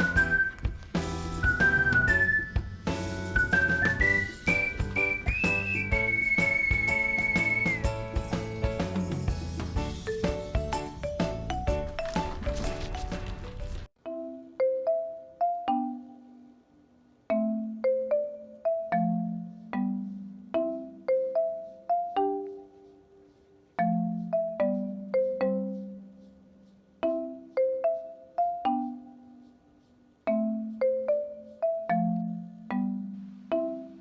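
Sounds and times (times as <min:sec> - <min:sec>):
marimba-like mallet melody: 0:02.9 - 0:13.3, 0:14.0 - 0:16.6, 0:17.3 - 0:23.0, 0:23.8 - 0:26.3, 0:27.0 - 0:29.5, 0:30.2 - 0:34.0.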